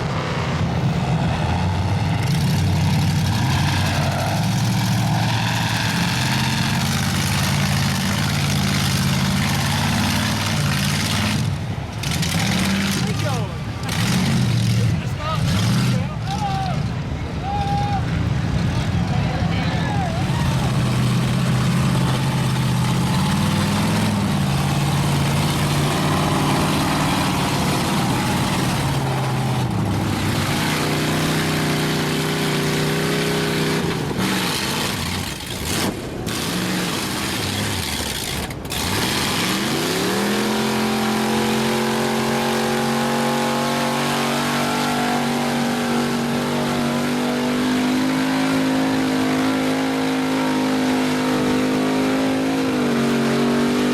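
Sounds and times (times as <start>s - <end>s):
truck engine revving: 0.0s - 17.4s, 18.0s - 53.9s.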